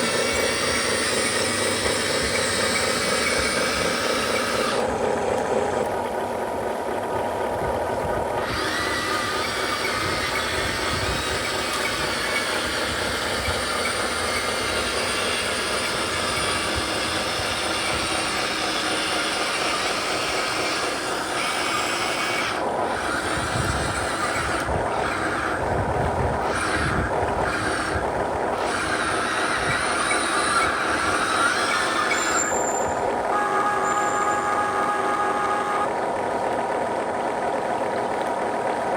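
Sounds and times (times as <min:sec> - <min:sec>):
toy truck motors whining: 0:00.0 - 0:38.5.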